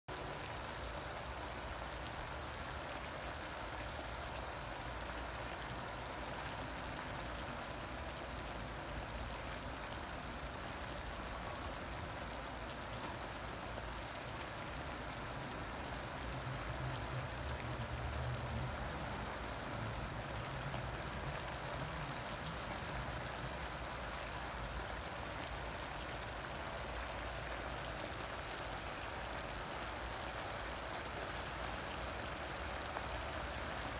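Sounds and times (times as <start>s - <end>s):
sauce sizzling and bubbling: 0.1s - 33.9s.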